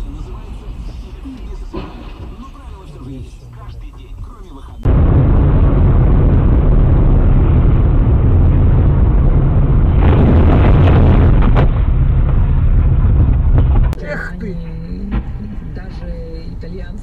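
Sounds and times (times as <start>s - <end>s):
vehicle and road rumble: 0.0s - 17.0s.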